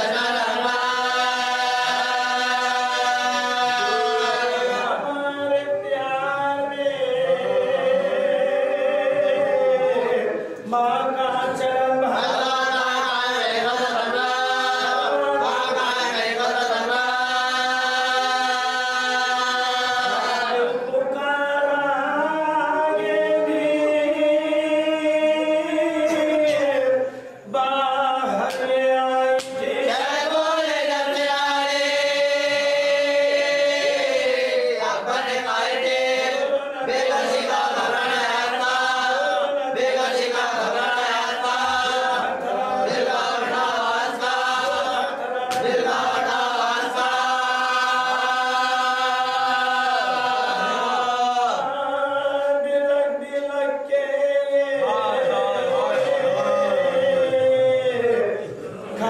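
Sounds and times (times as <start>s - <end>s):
man chanting unaccompanied: 0.0s - 59.0s.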